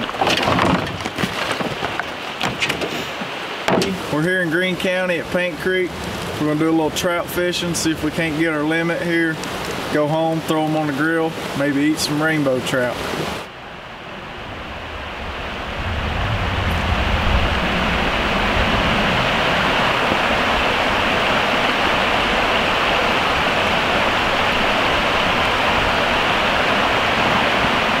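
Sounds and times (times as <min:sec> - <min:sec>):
creek running over rocks: 0:00.0 - 0:28.0.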